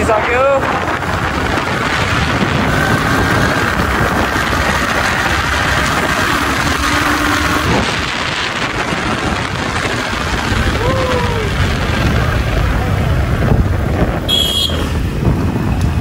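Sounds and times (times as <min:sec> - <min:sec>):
loud rush of noise: 0:00.0 - 0:16.0
motorcycle engine running: 0:00.0 - 0:16.0.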